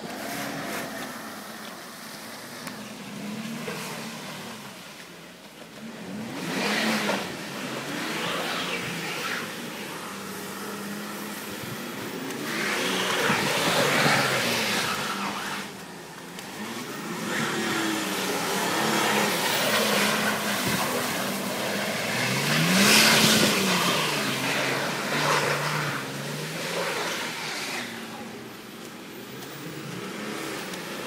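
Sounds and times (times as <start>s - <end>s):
car engine revving: 0.0s - 31.0s
tyres hissing through slush: 5.8s - 31.0s.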